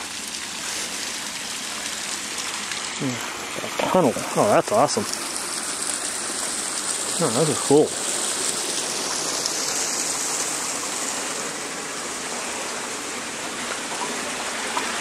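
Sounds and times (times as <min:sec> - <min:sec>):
small stream flowing: 0:00.0 - 0:15.0.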